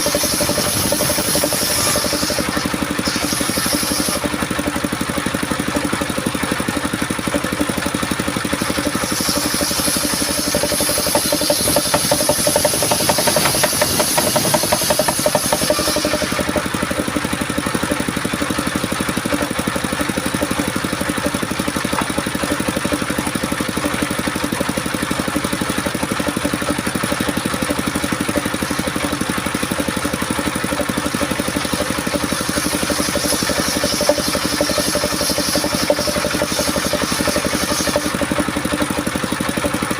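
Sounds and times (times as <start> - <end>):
circular saw running: 0.0 - 39.9
saw blade cutting wood: 0.0 - 39.9.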